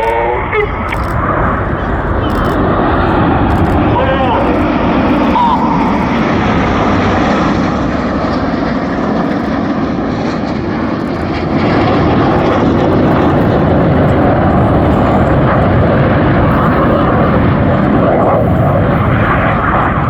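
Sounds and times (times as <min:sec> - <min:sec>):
jet roar overhead: 0:00.0 - 0:20.0.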